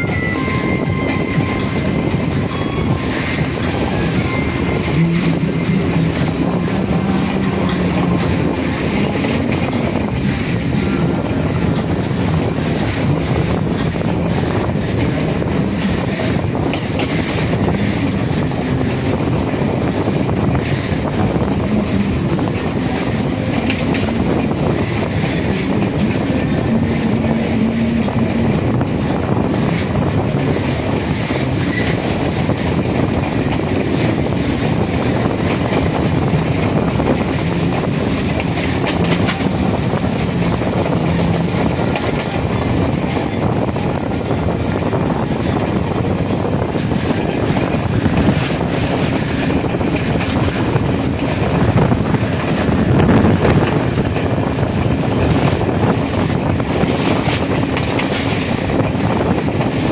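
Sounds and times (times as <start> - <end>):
train rumbling: 0.0 - 59.9
wheels clacking on rails: 0.0 - 59.9.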